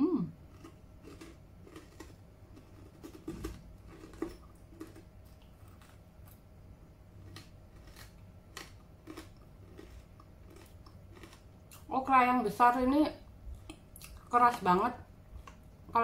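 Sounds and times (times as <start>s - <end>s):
person chewing crunchy okra: 0.3s - 11.9s, 13.4s - 14.6s, 15.2s - 15.9s.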